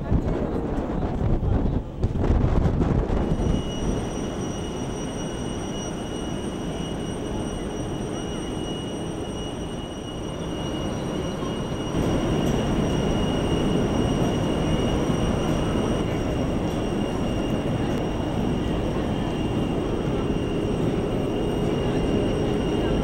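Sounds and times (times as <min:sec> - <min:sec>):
loud rumbling on ship deck: 0:00.0 - 0:23.0
faint high whine: 0:03.0 - 0:23.0.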